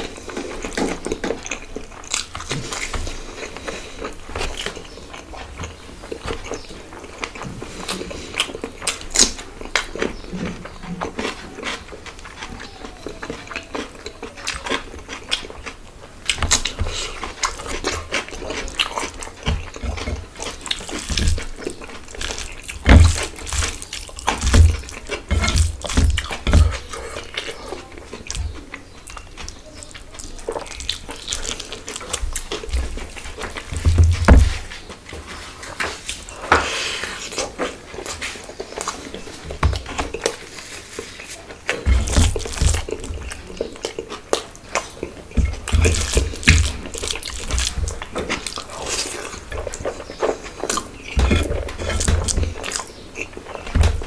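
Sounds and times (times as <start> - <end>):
wet chewing and smacking: 0.0 - 54.0.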